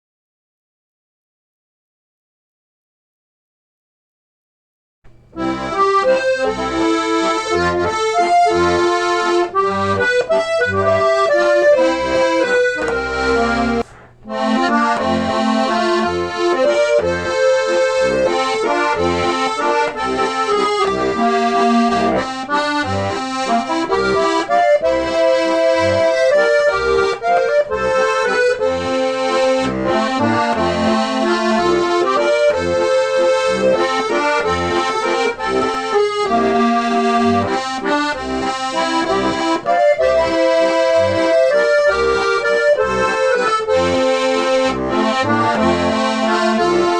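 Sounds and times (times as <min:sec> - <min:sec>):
accordion playing a tune: 0:05.1 - 0:46.9.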